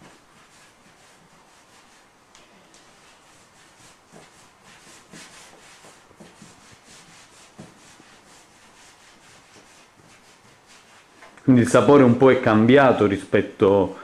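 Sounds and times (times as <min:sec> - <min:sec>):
dough rubbing on wooden board: 0:00.0 - 0:12.6.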